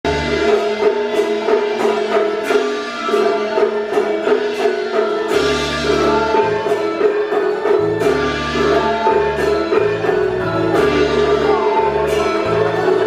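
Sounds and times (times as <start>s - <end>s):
melody instruments playing: 0.1s - 13.0s.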